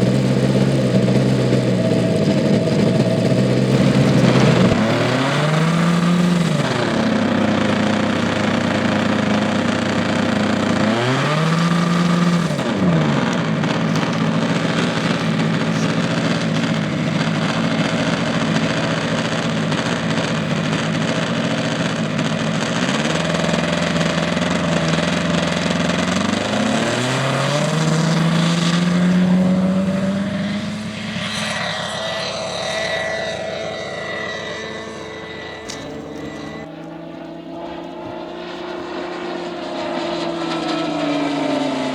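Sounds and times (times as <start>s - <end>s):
model plane engine running: 0.0s - 41.9s.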